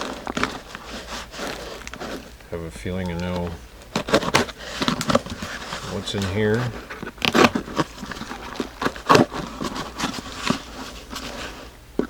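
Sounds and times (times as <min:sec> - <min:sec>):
packing tape scraping and rustling: 0:00.0 - 0:12.0.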